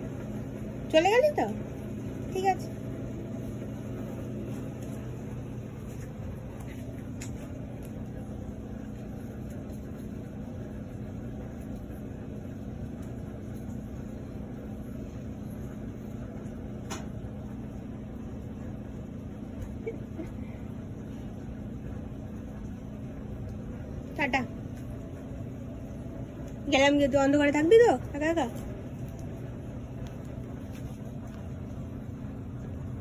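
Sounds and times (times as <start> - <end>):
machine humming: 0.0 - 33.0.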